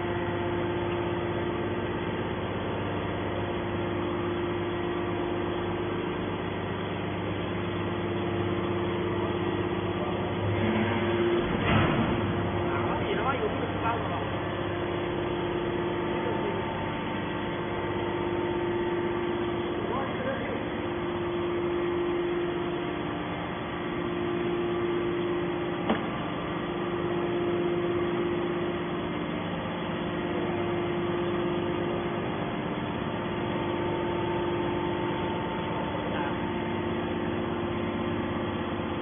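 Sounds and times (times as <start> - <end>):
hydraulic power unit humming: 0.0 - 39.0.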